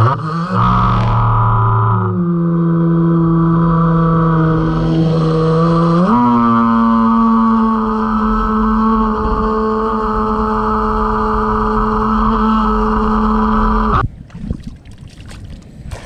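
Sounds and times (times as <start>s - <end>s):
electric motor whining: 0.0s - 14.0s
water splashing against hull: 2.2s - 16.0s.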